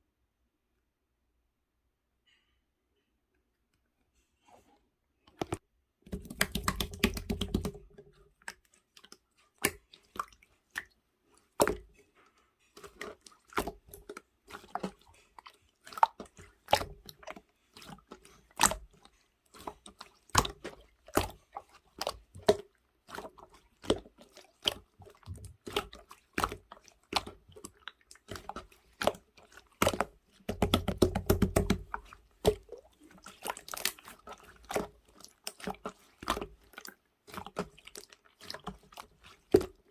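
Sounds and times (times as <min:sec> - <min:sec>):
slime squelching by hand: 0:04.6 - 0:39.9.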